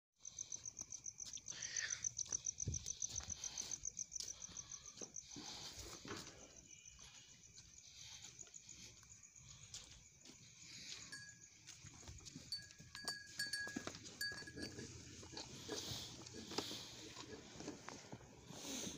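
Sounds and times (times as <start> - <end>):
cricket chirping: 0.2 - 18.9.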